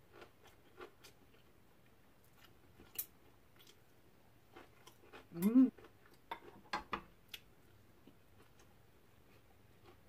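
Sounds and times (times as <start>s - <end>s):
quiet chewing of food: 0.0s - 10.0s.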